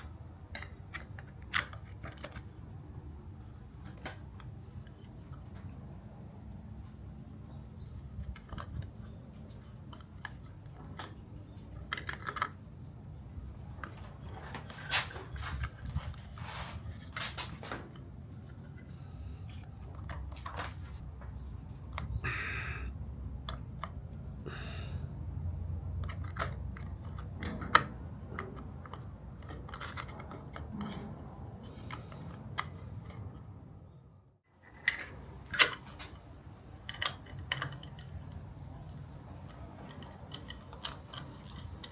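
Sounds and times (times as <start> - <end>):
hands handling metal parts: 0.0 - 22.6, 25.8 - 33.7, 34.6 - 41.9.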